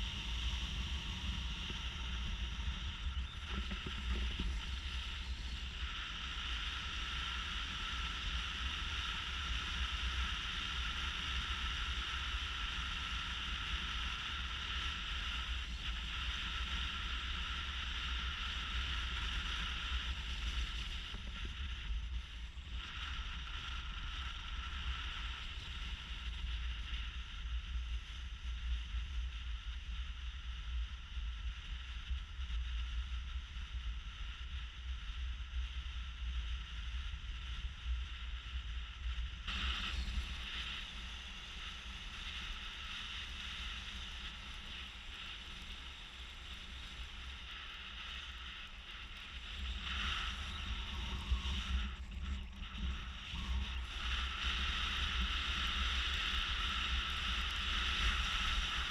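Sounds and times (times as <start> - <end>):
wind and road noise: 0.0 - 58.9.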